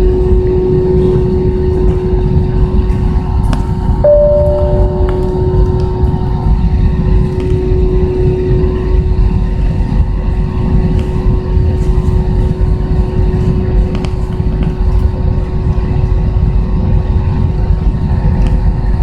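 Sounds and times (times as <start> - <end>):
constant cabin hum: 0.0 - 19.0
jet engines and airflow rumble: 0.0 - 19.0.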